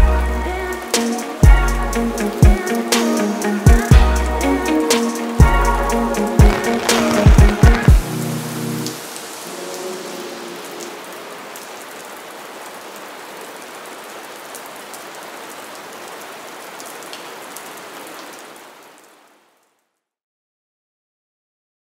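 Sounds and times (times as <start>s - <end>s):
steady rain hiss: 0.0s - 19.9s.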